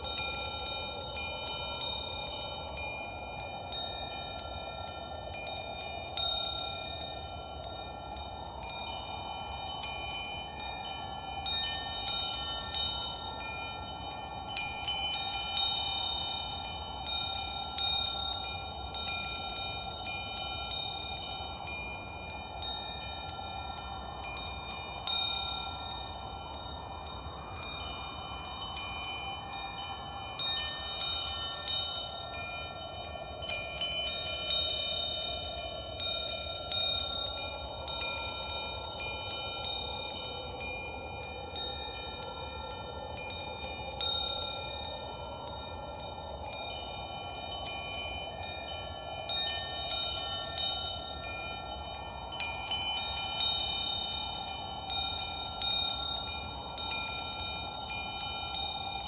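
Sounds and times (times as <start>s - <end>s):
wind chimes ringing: 0.0s - 59.0s.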